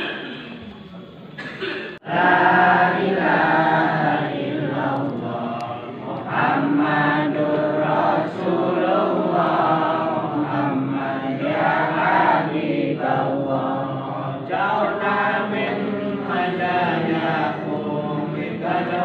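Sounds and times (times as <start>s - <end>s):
crowd chanting prayers in unison: 2.0s - 19.0s.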